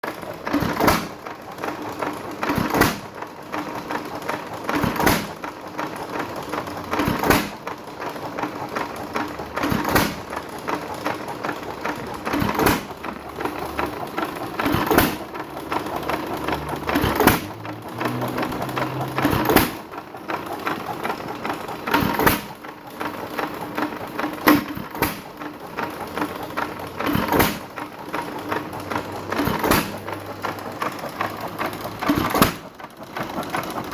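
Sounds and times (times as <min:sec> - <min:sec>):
clatter of valve gear: 0:00.0 - 0:33.9.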